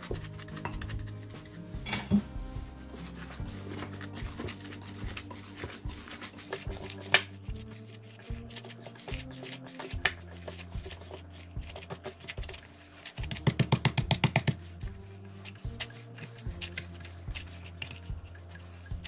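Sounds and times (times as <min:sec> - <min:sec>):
hands kneading wet meat mixture: 0:00.0 - 0:19.0
soft background music: 0:00.0 - 0:19.0.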